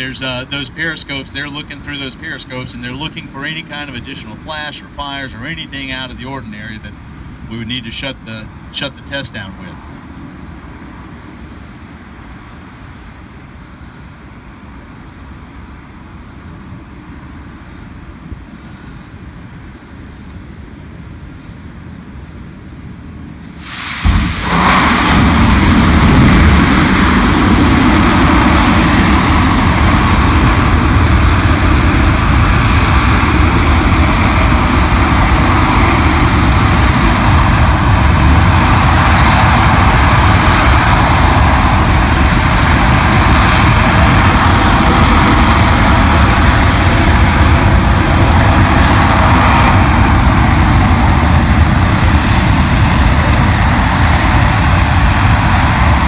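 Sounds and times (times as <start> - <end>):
rocket engine deep rumble: 0.0 - 56.0.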